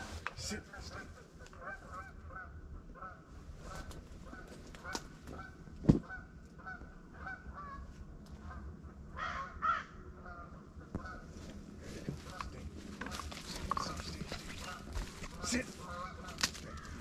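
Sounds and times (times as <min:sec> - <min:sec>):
geese honking: 0:00.0 - 0:11.4, 0:12.0 - 0:17.0.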